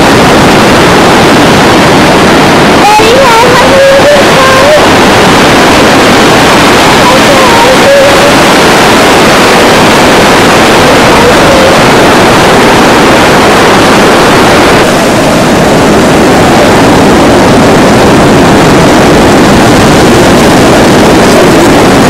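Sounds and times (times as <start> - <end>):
wind and surf roar: 0.0 - 22.0.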